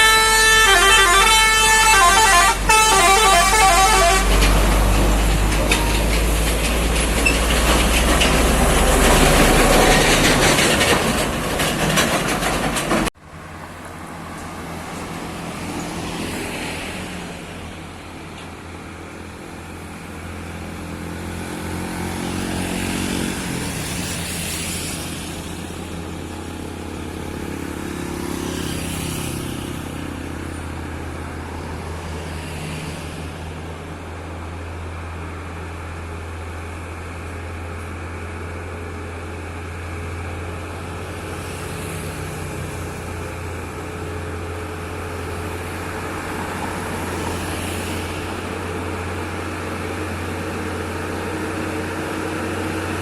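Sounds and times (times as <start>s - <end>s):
heavy diesel trucks passing: 0.0s - 53.0s.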